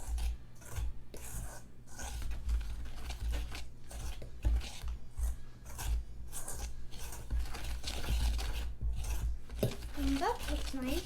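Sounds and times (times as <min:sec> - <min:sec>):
dry ingredients stirred in bowl: 0:00.0 - 0:11.0.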